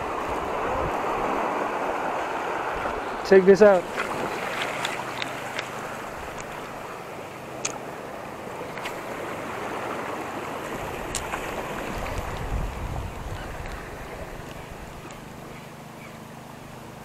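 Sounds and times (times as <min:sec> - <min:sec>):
seawater washing over rocks: 0:00.0 - 0:15.6.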